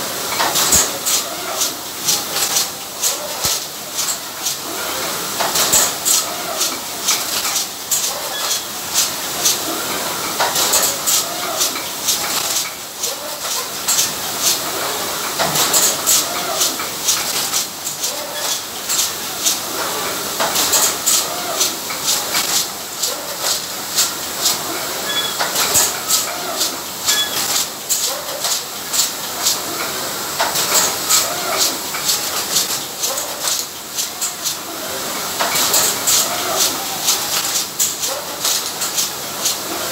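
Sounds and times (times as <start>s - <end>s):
capping machine clatter: 0.0s - 39.9s.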